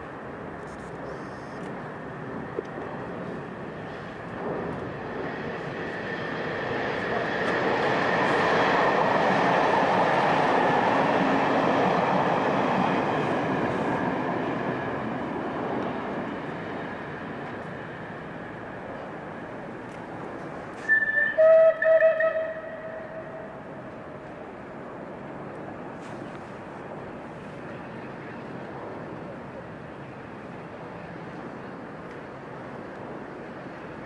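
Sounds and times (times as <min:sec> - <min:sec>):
electric train passing: 0:01.7 - 0:34.0.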